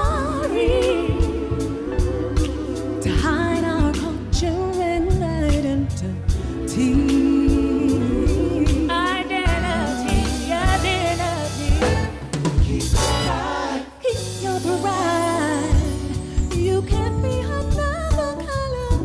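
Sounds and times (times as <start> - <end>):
gospel vocal ensemble singing: 0.0 - 16.9
lead voice singing: 0.0 - 17.0
drum kit and bass: 0.0 - 19.0.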